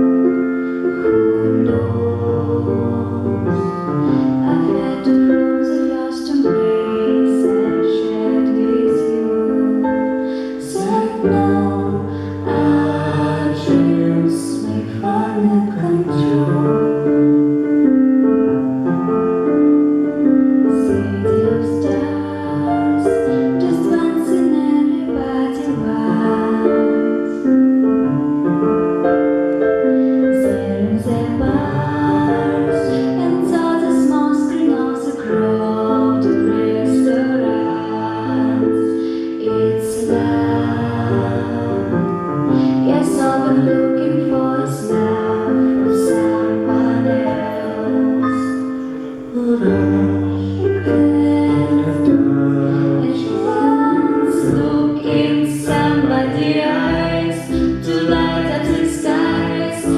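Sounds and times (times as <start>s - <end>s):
woman singing: 0.0s - 17.9s, 19.5s - 28.0s, 30.1s - 59.9s
piano accompaniment: 0.0s - 59.9s.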